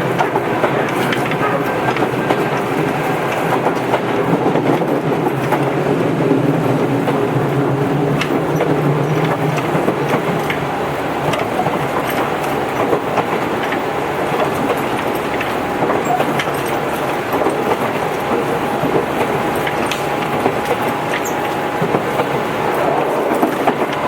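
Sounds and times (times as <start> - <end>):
low train motor hum: 0.0 - 24.0
rail-joint clicks: 0.0 - 24.0
train wheels rolling on rails: 0.0 - 24.0.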